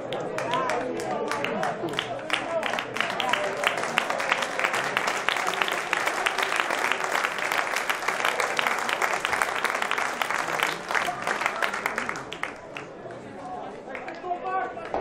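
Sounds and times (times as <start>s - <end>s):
crowd applause: 0.0s - 15.0s.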